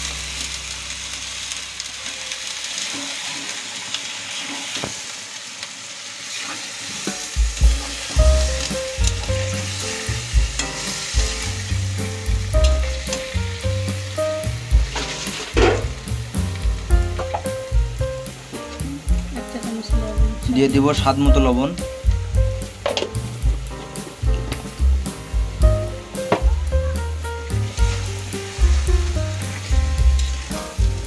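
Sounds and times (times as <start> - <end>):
meat sizzling in hot oil: 0.0 - 31.0.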